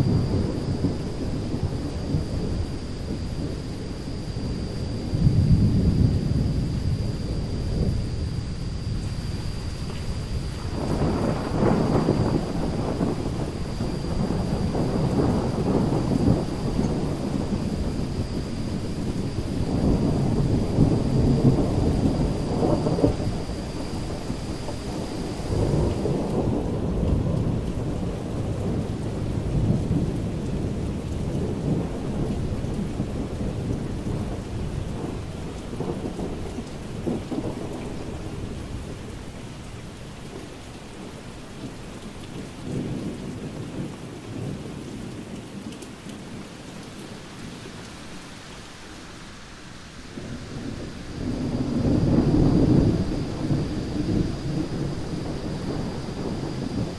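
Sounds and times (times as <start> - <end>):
rolling thunder: 0.0 - 39.3, 50.1 - 56.9
steady rain: 0.0 - 56.9.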